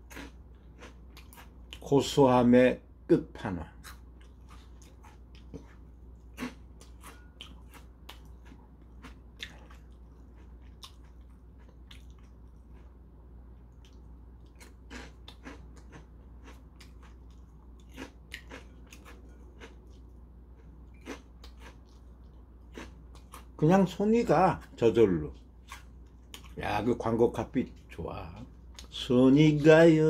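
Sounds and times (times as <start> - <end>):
crackers being chewed crunching: 0.0 - 2.2, 3.8 - 29.9
low steady hum: 0.0 - 30.0.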